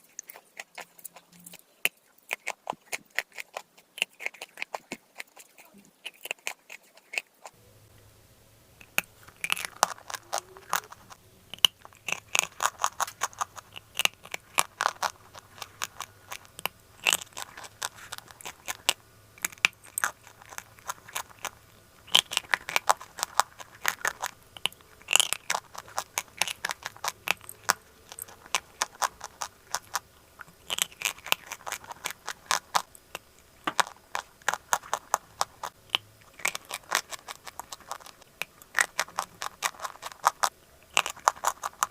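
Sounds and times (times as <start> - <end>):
chewing crunchy clay: 0.0 - 7.6, 8.8 - 41.9.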